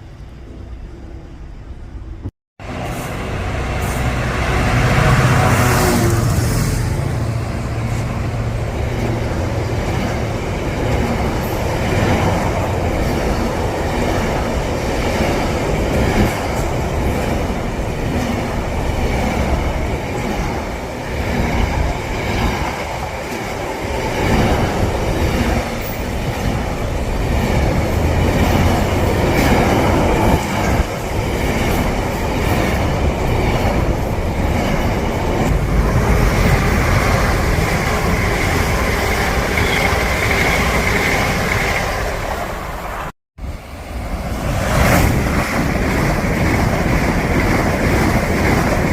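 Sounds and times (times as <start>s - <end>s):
train wheels on rail: 0.0s - 48.9s.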